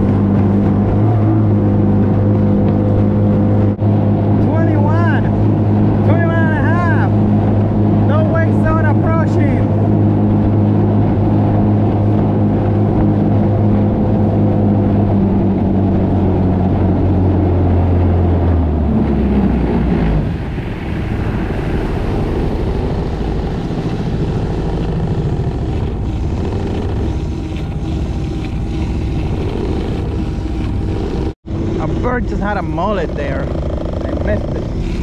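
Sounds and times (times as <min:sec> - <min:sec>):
jet kayak engine drone: 0:00.0 - 0:35.0
water rushing along hull: 0:00.0 - 0:35.0.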